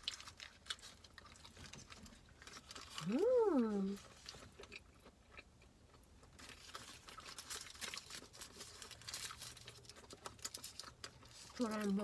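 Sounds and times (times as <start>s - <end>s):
paper wrappers crinkling: 0.0s - 4.6s, 6.3s - 12.0s
person chewing: 0.0s - 12.0s.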